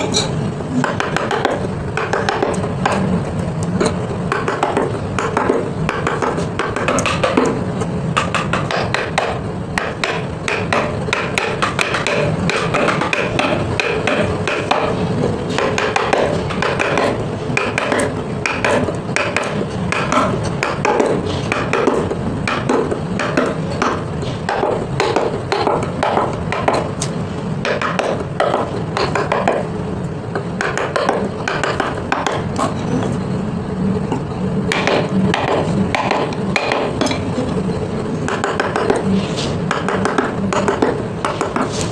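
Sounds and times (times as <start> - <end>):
mallet tapping chisel into wood: 0.8 - 3.1, 3.7 - 7.6, 8.2 - 14.9, 15.6 - 29.7, 30.6 - 32.8, 34.7 - 37.2, 38.3 - 39.0, 39.7 - 41.8.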